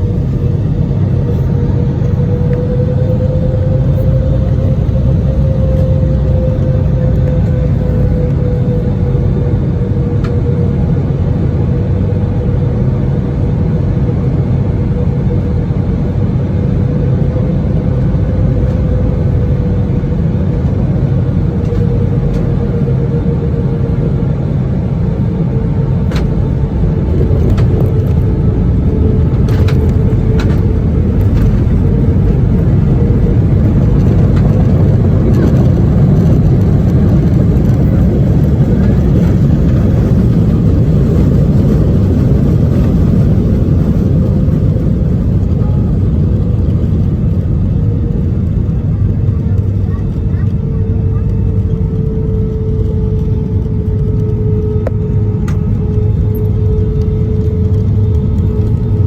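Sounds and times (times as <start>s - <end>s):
jet engines and airflow roar: 0.0s - 59.0s.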